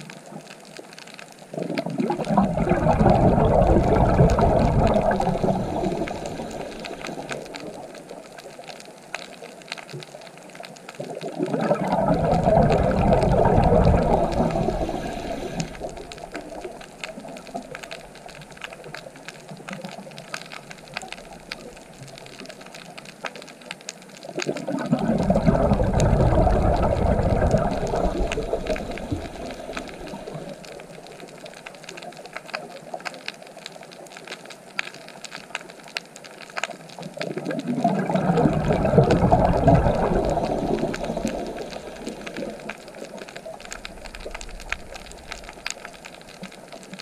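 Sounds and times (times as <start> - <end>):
faint crackle of clicks: 0.0 - 47.0
diver's bubbles gurgling underwater: 1.4 - 33.2, 36.4 - 47.0.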